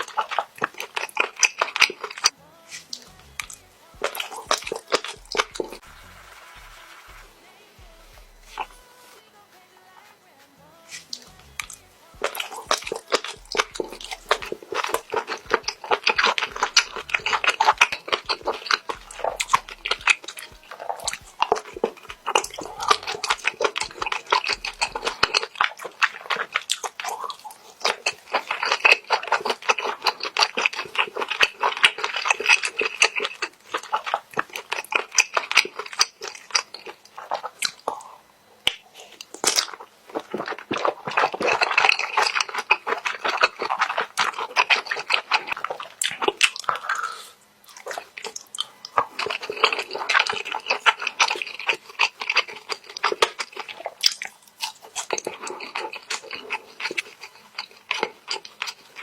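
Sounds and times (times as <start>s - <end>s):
close chewing mouth clicks and smacks: 0.0s - 5.9s, 10.9s - 59.0s.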